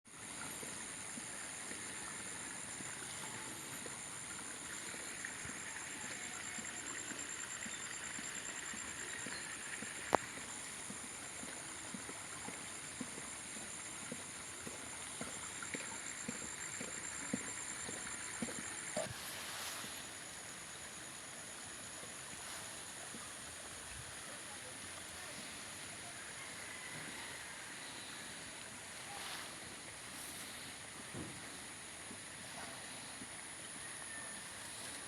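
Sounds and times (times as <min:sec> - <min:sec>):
insect chorus with pulsing trill: 0:00.1 - 0:35.0.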